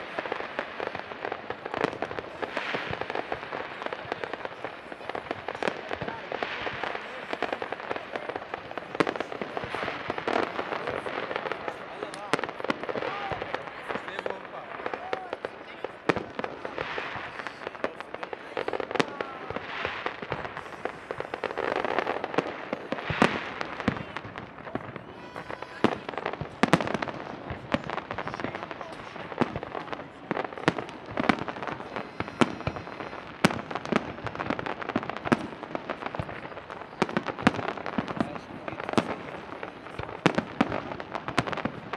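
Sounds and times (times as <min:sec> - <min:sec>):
fireworks rumble and crackle: 0:00.0 - 0:41.9
sharp firework bangs: 0:00.0 - 0:41.9.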